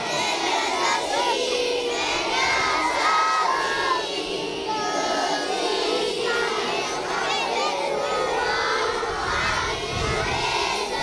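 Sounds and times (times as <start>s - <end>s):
children shouting and cheering: 0.0s - 11.0s.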